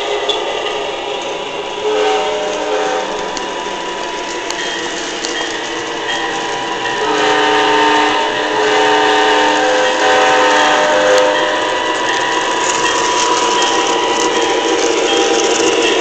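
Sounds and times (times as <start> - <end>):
electronic locomotive tones: 0.0 - 16.0
model train wheels and motor: 0.0 - 16.0.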